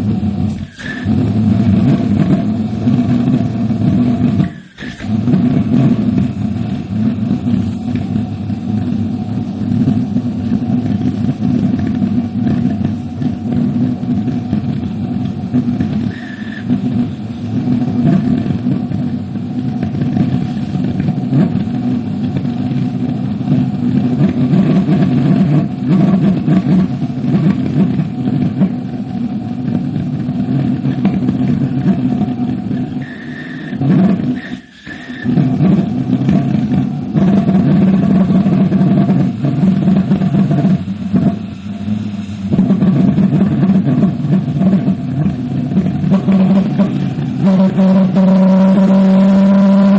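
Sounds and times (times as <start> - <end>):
pulsejet engine running loudly: 0.0 - 49.9.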